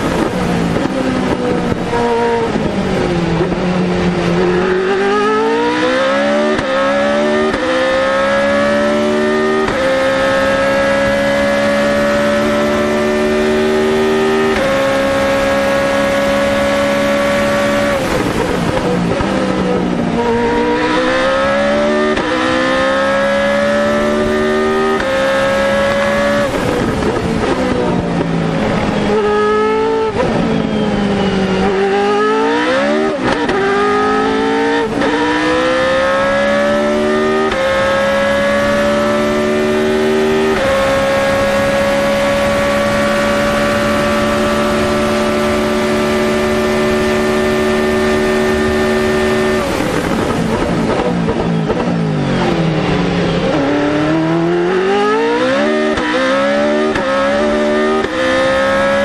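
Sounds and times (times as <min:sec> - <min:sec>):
racing car engine with gear changes: 0:00.0 - 0:59.0.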